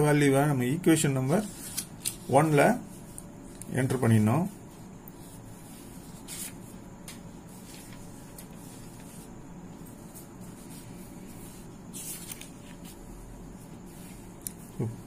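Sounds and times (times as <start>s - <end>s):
low room hum: 0.0s - 15.0s
hands rustling paper: 1.2s - 14.8s.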